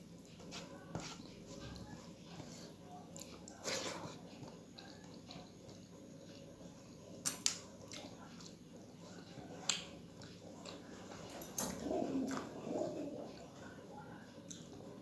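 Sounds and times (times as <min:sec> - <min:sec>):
quiet chewing: 0:00.1 - 0:15.0.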